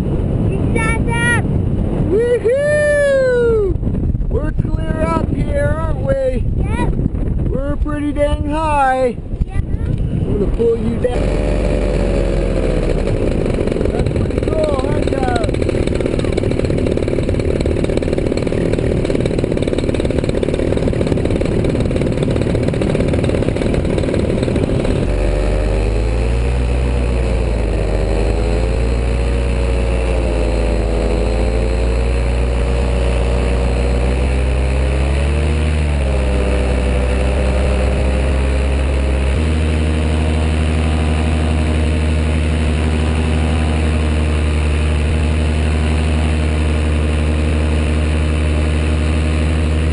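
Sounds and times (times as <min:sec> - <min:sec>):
dense rushing noise: 0:00.0 - 0:49.9
small engine running: 0:00.0 - 0:49.9.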